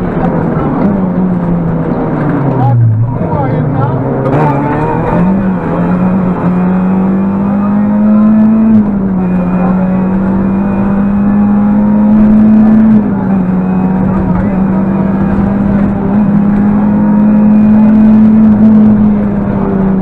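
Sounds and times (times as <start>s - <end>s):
rally car engine at high revs: 0.0s - 20.0s.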